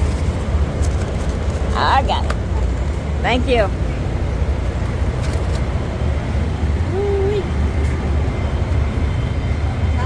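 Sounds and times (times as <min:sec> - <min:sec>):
large engine rumbling: 0:00.0 - 0:10.0.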